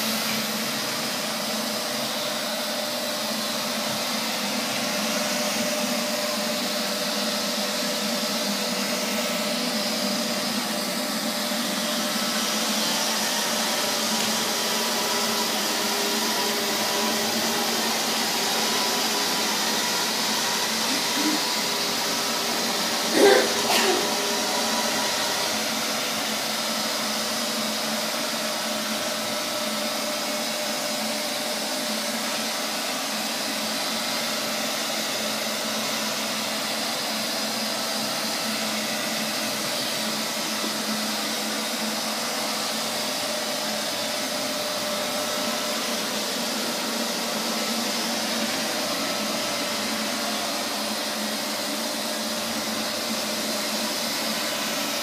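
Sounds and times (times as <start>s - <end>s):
robot vacuum cleaner running: 0.0s - 55.0s.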